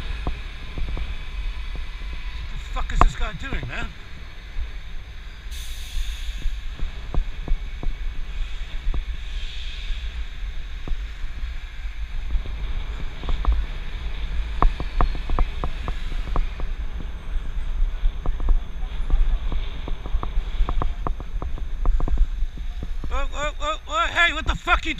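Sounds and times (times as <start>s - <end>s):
wind rushing over microphone: 0.0s - 24.9s.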